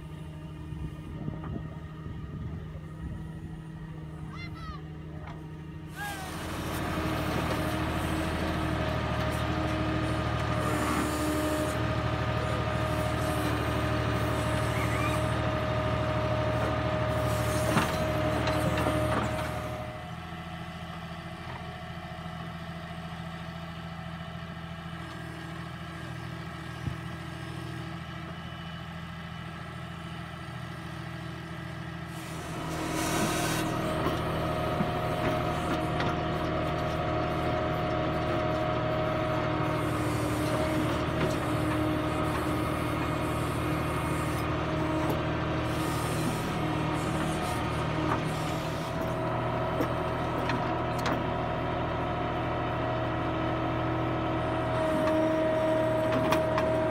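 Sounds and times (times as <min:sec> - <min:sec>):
diesel tractor engine under load: 0:00.0 - 0:56.9.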